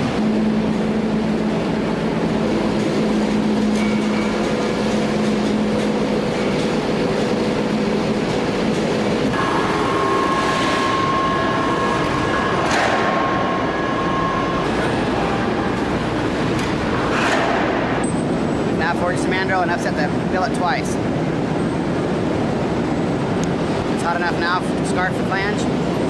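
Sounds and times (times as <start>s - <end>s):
heavy machinery drone: 0.0s - 26.0s
steady whine: 0.0s - 26.0s.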